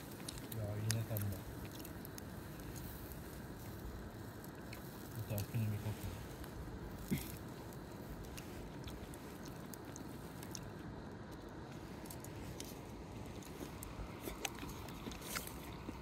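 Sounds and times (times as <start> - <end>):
wood fire crackling: 0.0 - 16.0
person quietly chewing: 0.1 - 3.8, 4.5 - 5.7, 7.0 - 16.0.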